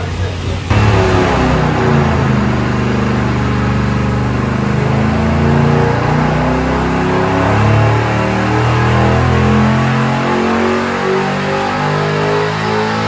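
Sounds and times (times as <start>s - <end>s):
engine revving at full load: 0.7s - 13.0s.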